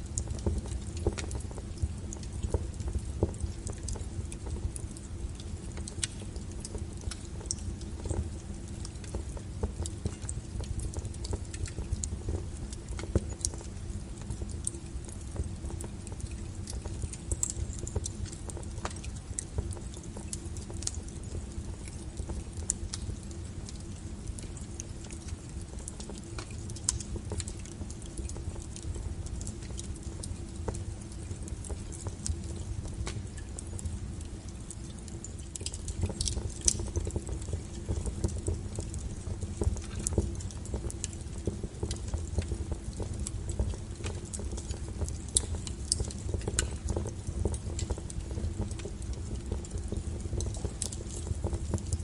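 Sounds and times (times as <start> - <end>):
firewood crackling and popping: 0.0 - 52.0.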